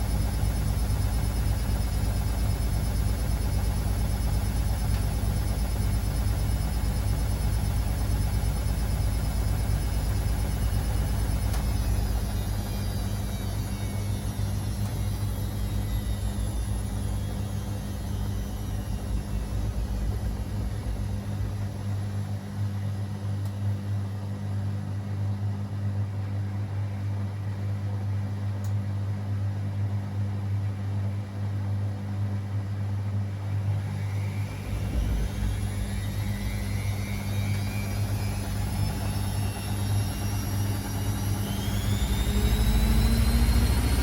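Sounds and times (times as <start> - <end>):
washing machine motor whine: 0.0 - 44.0
washing machine running: 0.0 - 44.0.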